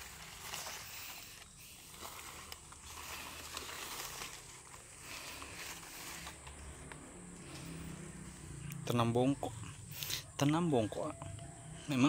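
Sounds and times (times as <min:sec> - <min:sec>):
leaves and branches rustling: 0:00.0 - 0:11.2.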